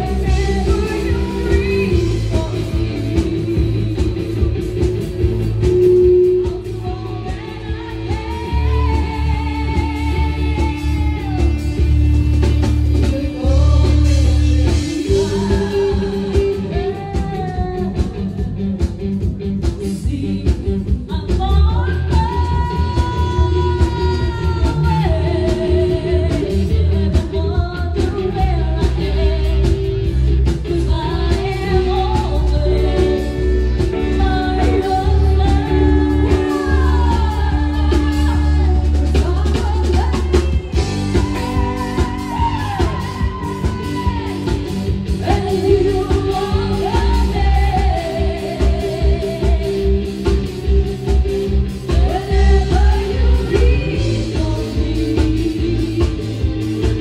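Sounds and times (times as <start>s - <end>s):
women singing a duet: 0.0s - 18.7s, 19.6s - 57.0s
live band with bass guitar: 0.0s - 57.0s.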